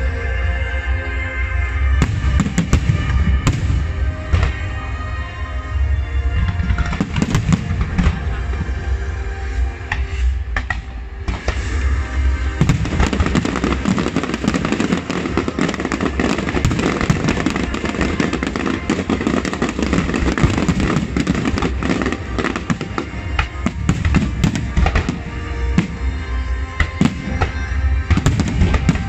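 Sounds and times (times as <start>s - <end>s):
music: 0.0s - 29.0s
fireworks bangs and crackles: 1.8s - 29.0s.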